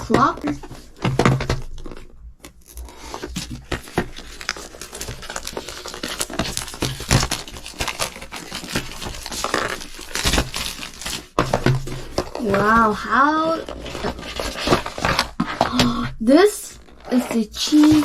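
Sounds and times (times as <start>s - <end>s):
packaging crinkling and rustling: 0.1s - 16.1s.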